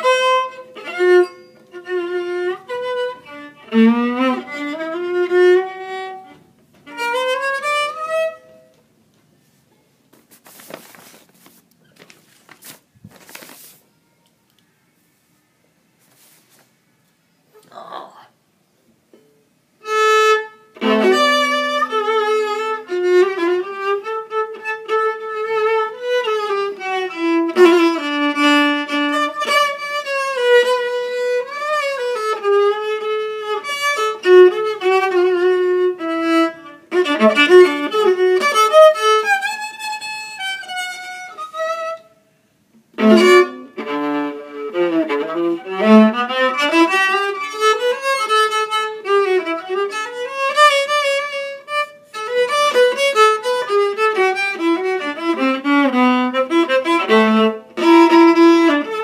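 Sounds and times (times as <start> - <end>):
solo violin slow melody: 0.0 - 8.8, 19.8 - 42.2, 42.9 - 59.0.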